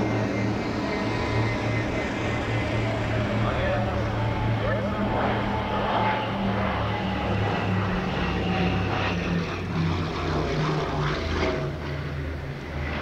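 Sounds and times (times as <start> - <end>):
propeller plane engines droning overhead: 0.0 - 13.0.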